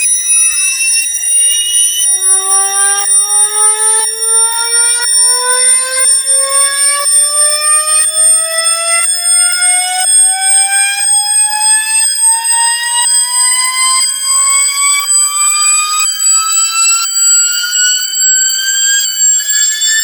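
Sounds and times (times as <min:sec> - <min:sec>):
electronic alarm ringtone: 0:00.0 - 0:20.0.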